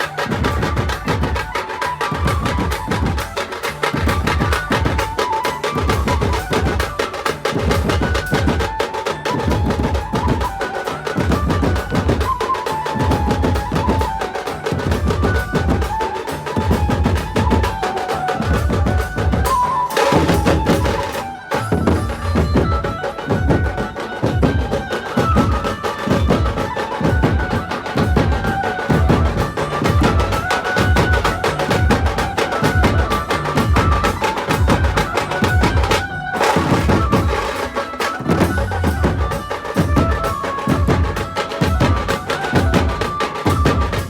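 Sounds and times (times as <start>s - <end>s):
procession music with drums: 0.0s - 44.0s.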